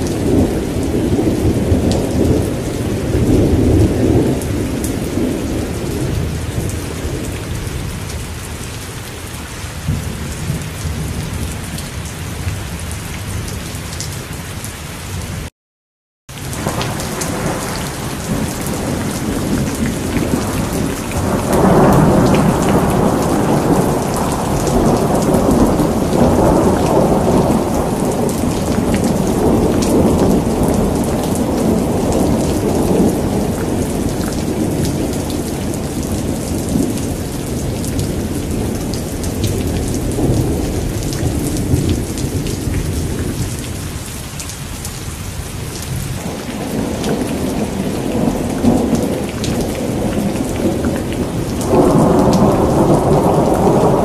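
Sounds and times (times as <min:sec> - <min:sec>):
rolling thunder: 0:00.0 - 0:08.0, 0:16.4 - 0:44.0, 0:45.7 - 0:54.0
heavy rain: 0:00.0 - 0:15.5, 0:16.3 - 0:54.0.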